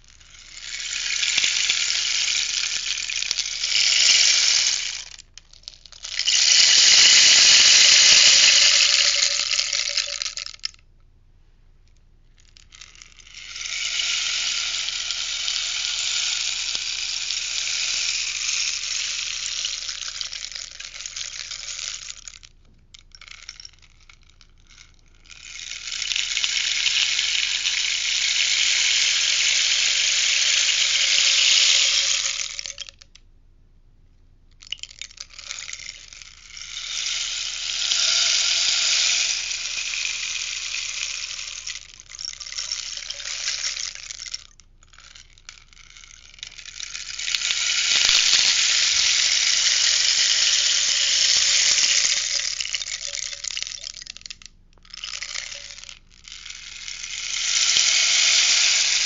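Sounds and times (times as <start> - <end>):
rainstick pellets cascading: 0.0 - 10.8, 12.4 - 22.5, 23.1 - 33.2, 34.6 - 59.0.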